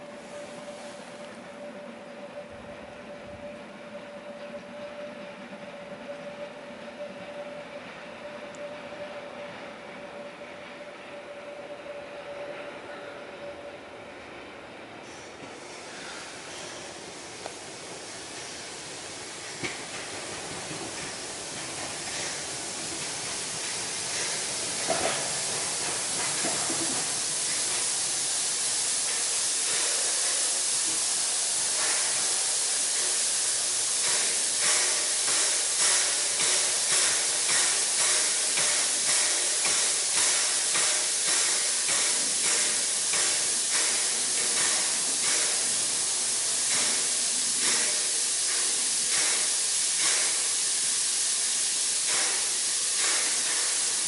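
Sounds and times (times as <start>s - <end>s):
steam hissing from cylinders: 0.0s - 13.9s, 14.9s - 54.0s
steam locomotive exhaust chuffing: 0.0s - 54.0s.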